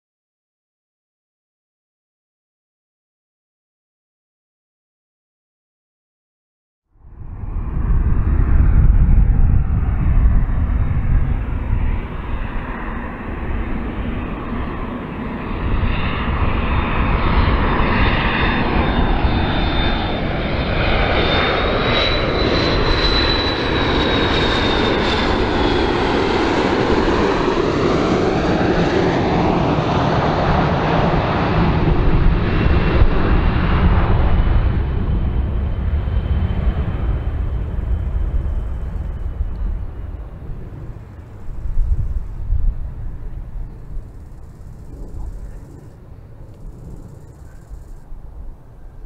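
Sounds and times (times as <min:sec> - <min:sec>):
jet airliner passing low: 0:06.9 - 0:49.0.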